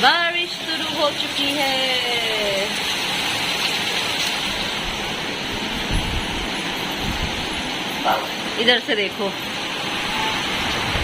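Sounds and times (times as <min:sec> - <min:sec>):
torrential rain: 0:00.0 - 0:11.0.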